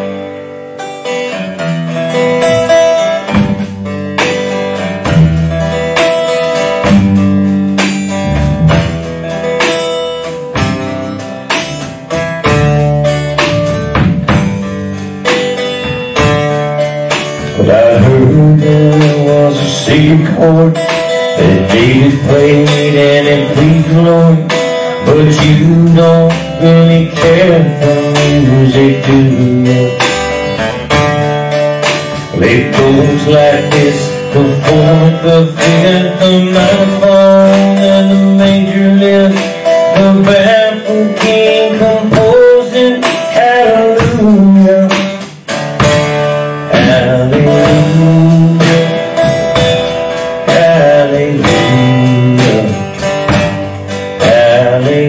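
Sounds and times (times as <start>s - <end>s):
live country band playing: 0.0s - 55.0s.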